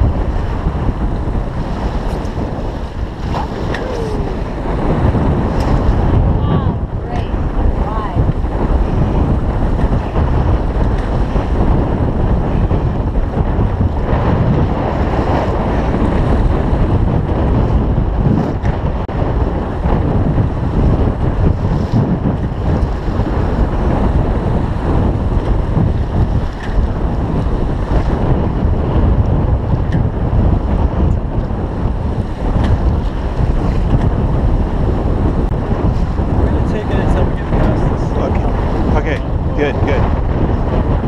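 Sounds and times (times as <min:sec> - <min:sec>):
water rushing along hull: 0:00.0 - 0:41.0
wind buffeting microphone: 0:00.0 - 0:41.0.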